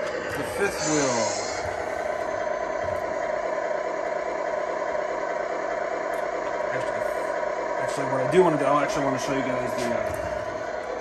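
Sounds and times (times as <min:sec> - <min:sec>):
simulated truck engine idling: 0:00.0 - 0:11.0.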